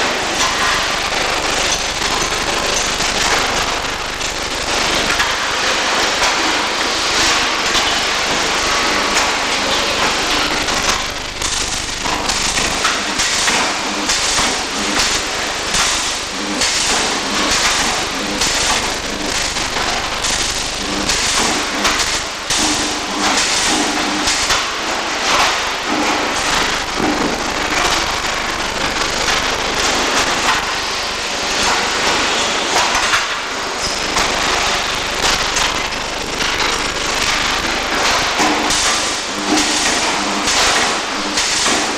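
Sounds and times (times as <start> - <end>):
arc welding crackling hiss: 0.0 - 41.9.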